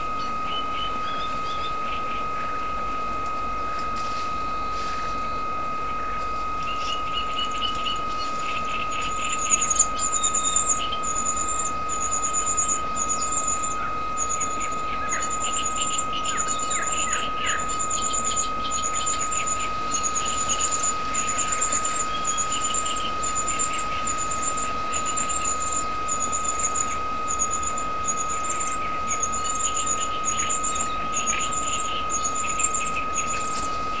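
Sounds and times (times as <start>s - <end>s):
steady high whine: 0.0s - 34.0s.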